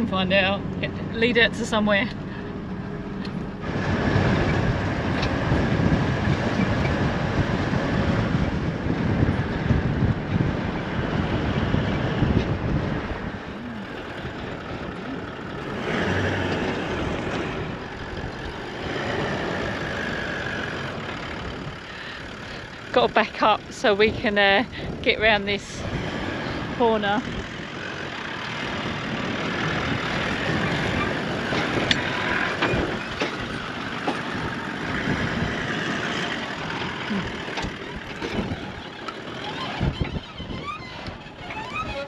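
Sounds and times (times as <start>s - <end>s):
tyres on sand and gravel: 0.0s - 42.0s
vehicle engine running: 0.0s - 42.0s
wind noise: 0.0s - 42.0s.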